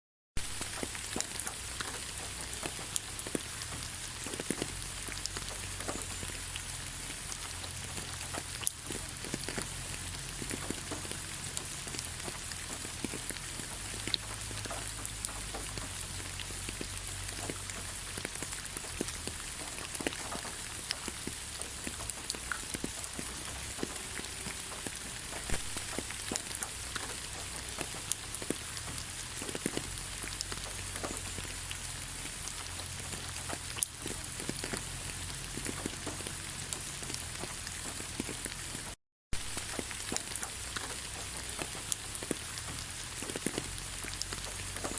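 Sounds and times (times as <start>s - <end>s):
rain in a forest: 0.4s - 44.9s
raindrops ticking close by: 0.4s - 44.9s.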